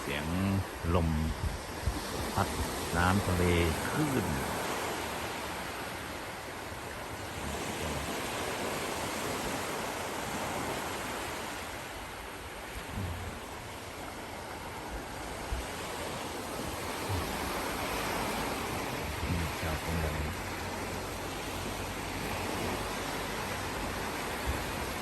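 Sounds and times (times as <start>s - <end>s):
sea waves washing onto beach: 0.0s - 25.0s
wind blowing: 0.0s - 25.0s.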